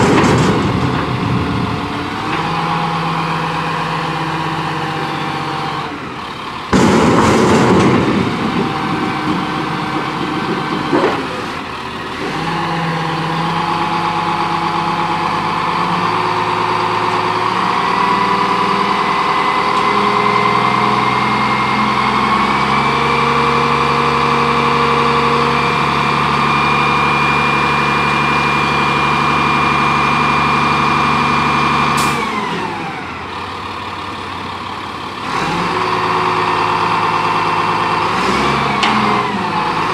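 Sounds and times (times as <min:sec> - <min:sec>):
garbage truck diesel engine revving: 0:00.0 - 0:39.9.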